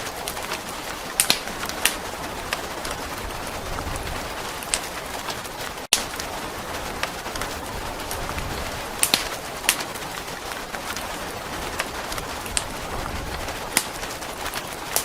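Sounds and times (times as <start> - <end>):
fire crackling and popping: 0.0 - 15.0
rain hissing: 0.0 - 15.0.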